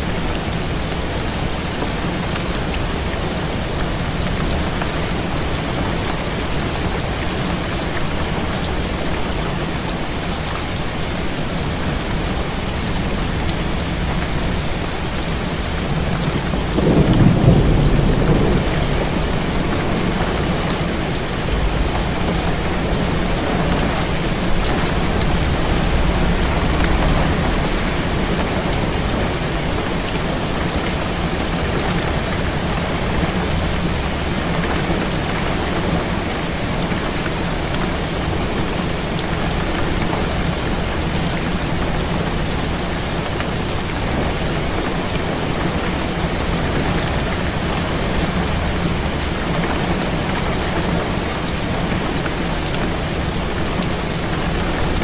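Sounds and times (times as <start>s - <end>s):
heavy rain on a window: 0.0s - 55.0s
wind: 0.0s - 55.0s.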